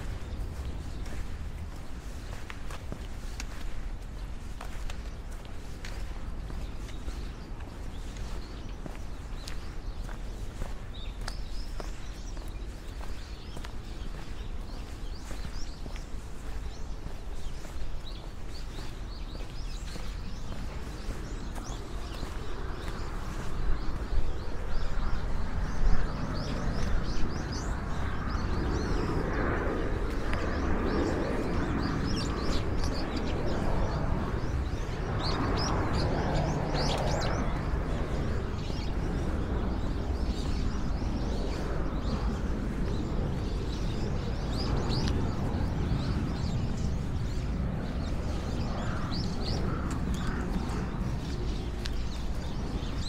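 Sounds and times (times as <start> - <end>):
low outdoor rumble: 0.0 - 53.0
small birds chirping: 0.0 - 53.0.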